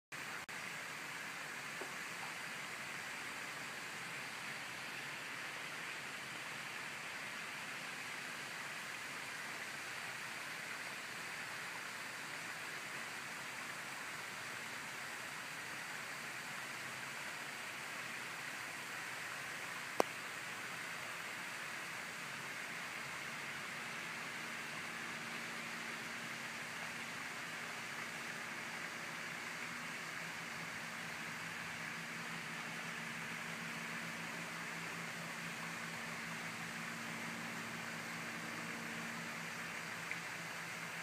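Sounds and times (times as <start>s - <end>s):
steady hiss: 0.1s - 41.0s.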